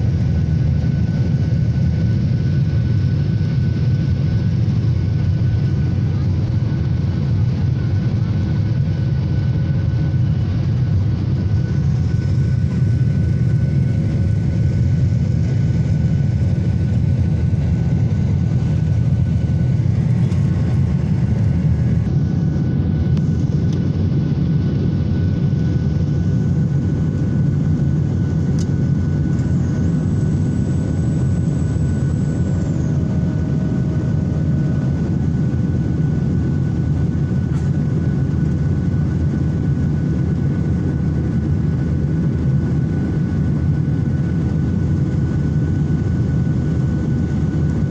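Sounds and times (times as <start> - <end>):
thin steady whine: 0.0 - 24.4, 25.0 - 47.9
airliner cabin engine roar: 0.0 - 47.9.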